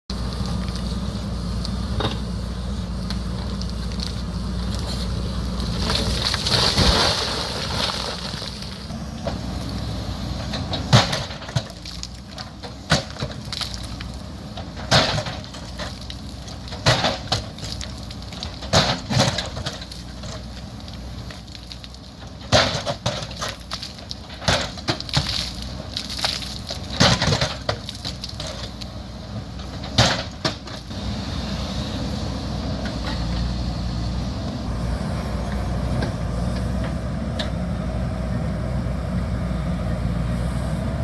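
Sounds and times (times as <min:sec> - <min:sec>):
diesel engine running: 0:00.1 - 0:41.0.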